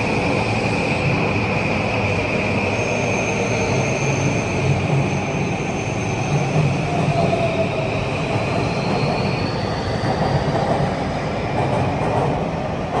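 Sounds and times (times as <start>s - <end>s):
electric train rumbling on rails: 0.0s - 13.0s.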